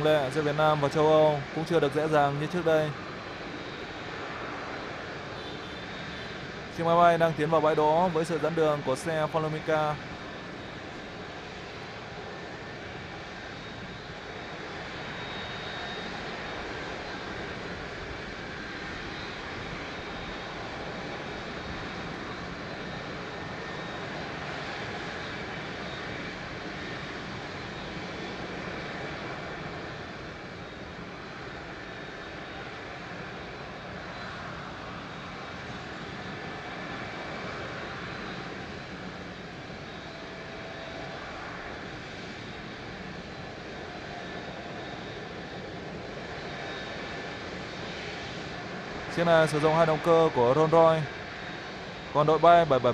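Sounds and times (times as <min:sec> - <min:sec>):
distant jet engine rumble: 0:00.0 - 0:52.9.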